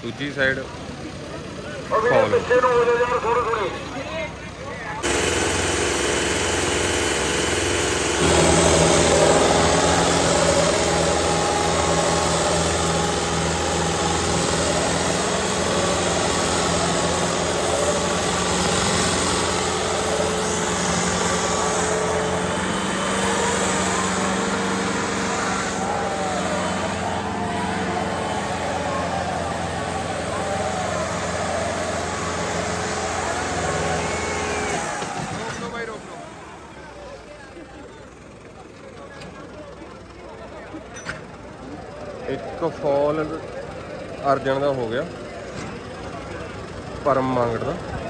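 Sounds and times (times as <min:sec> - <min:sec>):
diesel tractor engine running: 0:00.0 - 0:48.0.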